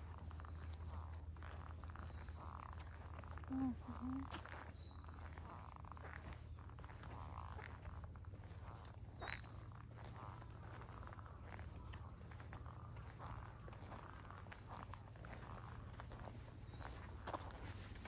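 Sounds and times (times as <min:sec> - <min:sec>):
footsteps on asphalt: 0:00.0 - 0:18.0
insects chirring: 0:00.0 - 0:18.0.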